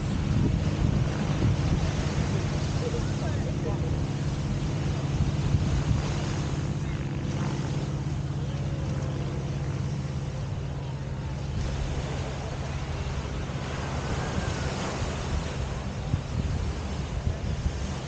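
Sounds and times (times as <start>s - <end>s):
surf: 0.0s - 18.0s.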